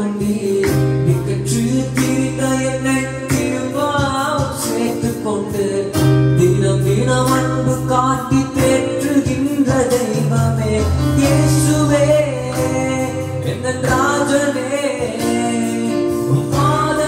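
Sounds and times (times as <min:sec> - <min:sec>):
electronic keyboard chords: 0:00.0 - 0:17.0
man singing worship song: 0:00.0 - 0:17.0.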